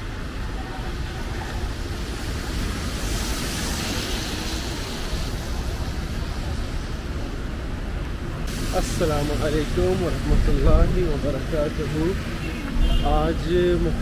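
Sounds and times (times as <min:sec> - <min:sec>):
road traffic: 0:00.0 - 0:14.0
tyres hissing on wet asphalt: 0:00.2 - 0:14.0.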